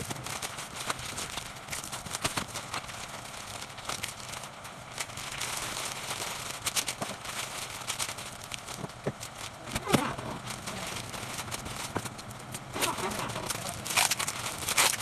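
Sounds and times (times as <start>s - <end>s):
wrapping paper crinkling: 0.0s - 15.0s.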